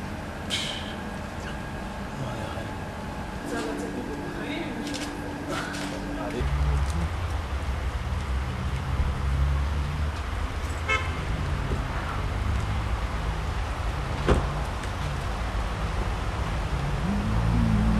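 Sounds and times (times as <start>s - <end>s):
low street rumble: 0.0s - 17.9s.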